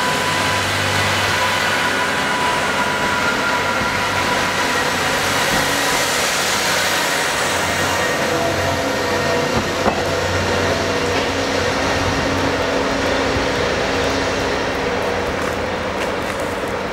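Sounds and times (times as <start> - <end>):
diesel train engine humming: 0.0 - 16.9.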